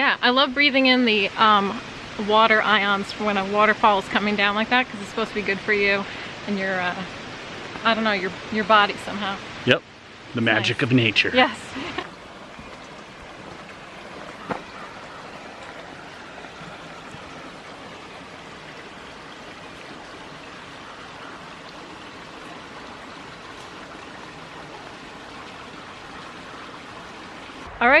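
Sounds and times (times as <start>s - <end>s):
waterfall rushing: 1.2s - 28.0s.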